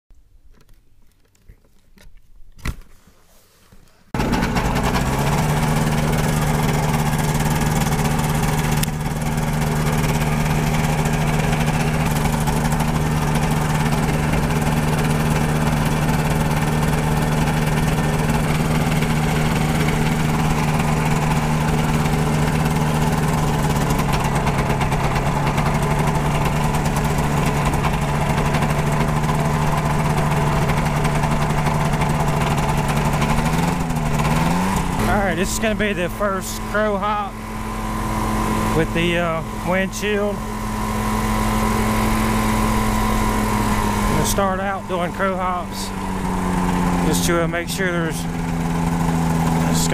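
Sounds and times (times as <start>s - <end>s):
aircraft engine and propeller running: 4.2s - 49.9s.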